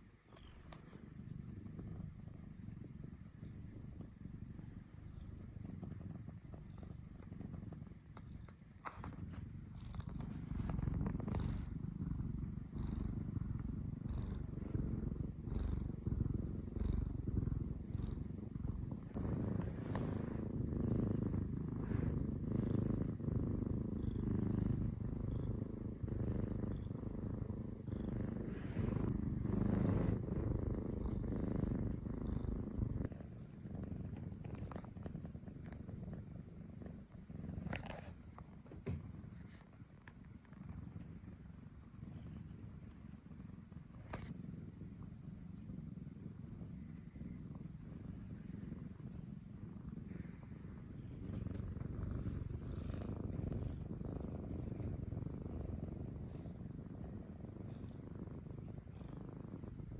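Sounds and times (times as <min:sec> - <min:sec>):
cat snoring: 0:04.4 - 0:38.4, 0:45.6 - 0:59.9.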